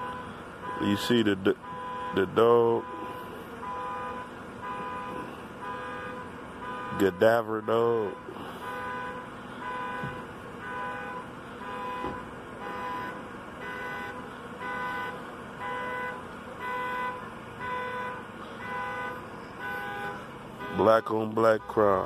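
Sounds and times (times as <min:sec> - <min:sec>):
car alarm pulsing tone: 0:00.0 - 0:22.0.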